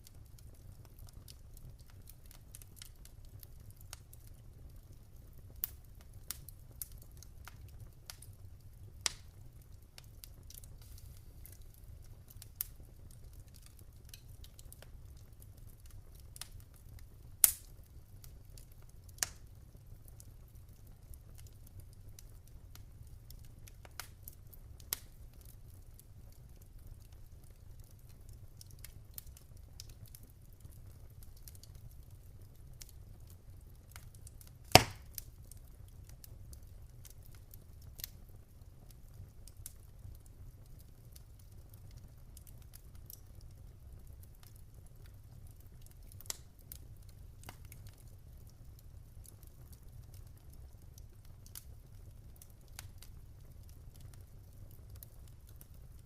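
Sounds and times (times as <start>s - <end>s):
low rumble of fire: 0.0s - 56.0s
wood fire pops and snaps: 0.0s - 56.0s.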